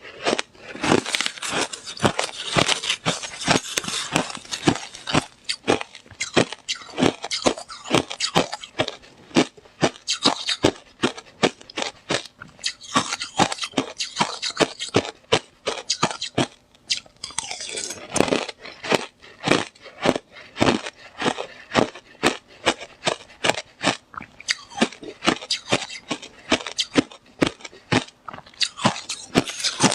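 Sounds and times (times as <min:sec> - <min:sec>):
ice being chewed: 0:00.0 - 0:29.9.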